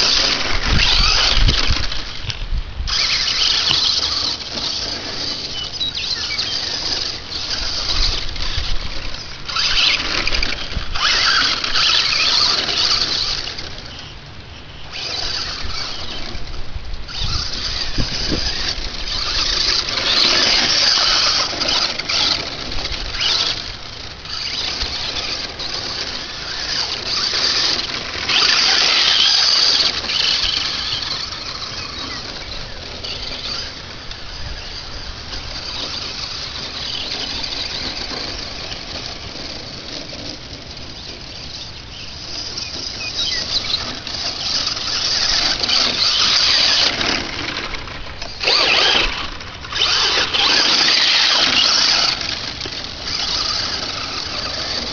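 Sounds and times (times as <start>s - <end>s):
rc truck motor whine: 0.0s - 54.9s.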